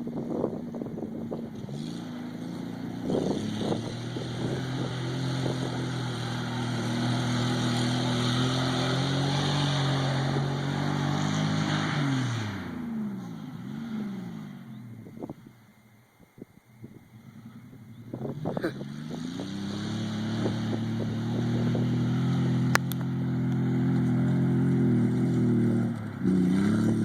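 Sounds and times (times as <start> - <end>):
vehicle engine revving: 0.0 - 15.6, 16.8 - 27.0.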